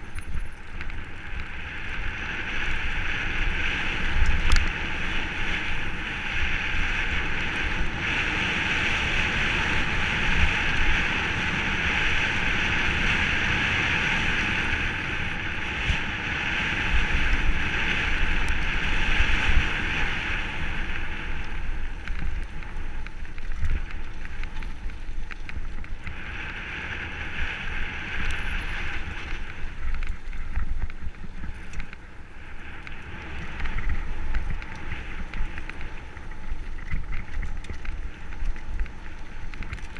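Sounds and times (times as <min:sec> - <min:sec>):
bike tyres rolling on dirt: 0:00.0 - 0:39.9
wind rushing over microphone: 0:00.0 - 0:39.9.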